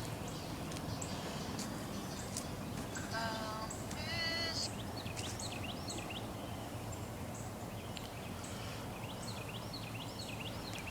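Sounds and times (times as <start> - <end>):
steady outdoor rumble: 0.0 - 10.9
songbirds whistling: 0.1 - 10.9.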